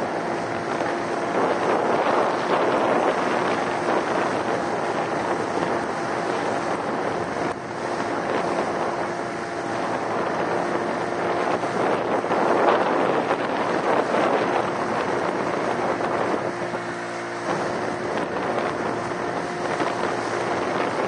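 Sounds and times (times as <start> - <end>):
boat motor humming: 0.0 - 21.0
water rushing past boat: 0.0 - 21.0
wind buffeting microphone: 0.0 - 21.0.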